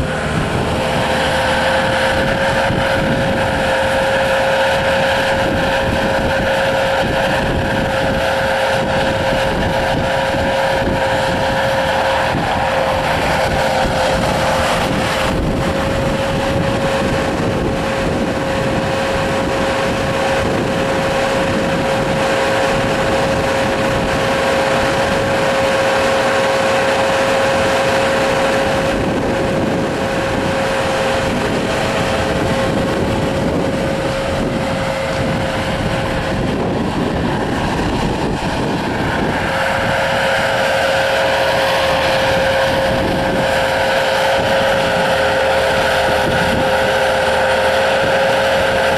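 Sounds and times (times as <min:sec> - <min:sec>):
diesel engine running: 0:00.0 - 0:48.9
high whine: 0:00.0 - 0:48.9.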